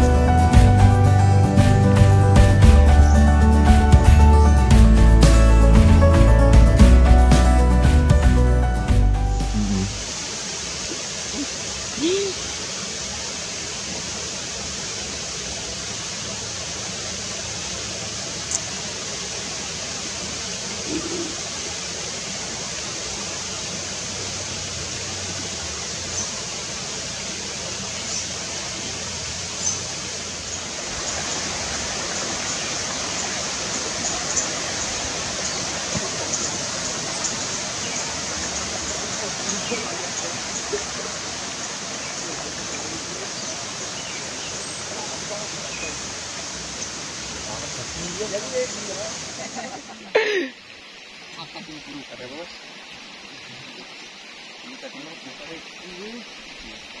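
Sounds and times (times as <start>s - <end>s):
outdoor ambience hiss: 0.0s - 57.0s.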